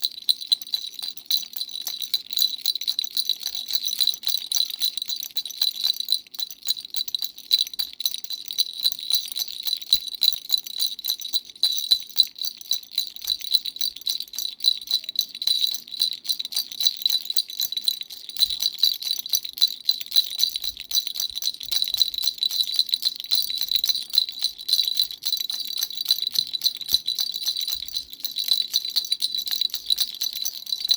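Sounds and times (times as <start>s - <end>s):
baby rattle shaking: 0.0s - 30.9s.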